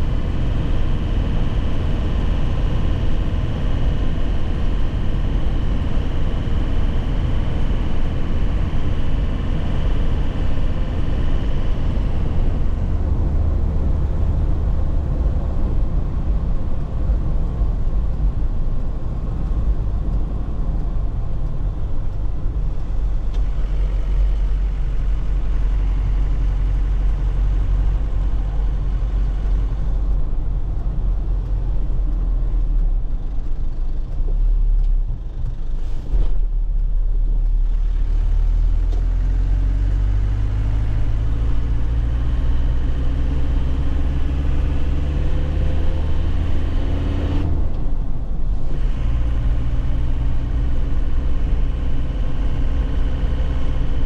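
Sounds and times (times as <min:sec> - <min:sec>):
diesel engine from inside cab: 0:00.0 - 0:54.0.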